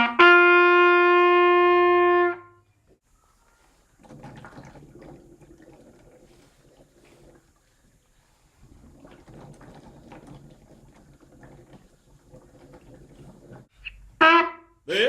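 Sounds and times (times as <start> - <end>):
faint room noise: 0.0 - 15.0.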